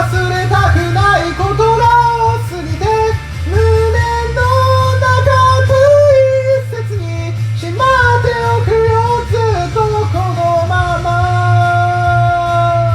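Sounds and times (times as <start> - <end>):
karaoke backing track: 0.0 - 12.9.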